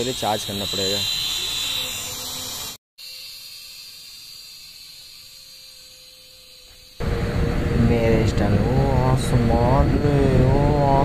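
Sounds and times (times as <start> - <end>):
thin steady hum: 0.0 - 11.0.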